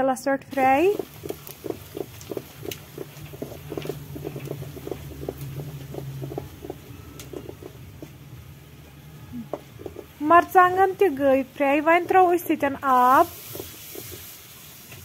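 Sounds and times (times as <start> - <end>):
onions sizzling in oil: 0.5 - 15.0
wooden spatula scraping: 0.5 - 15.0.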